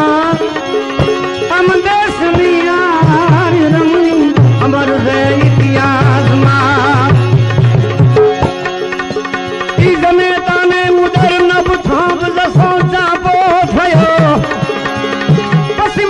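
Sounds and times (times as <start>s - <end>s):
tabla strokes: 0.3s - 16.0s.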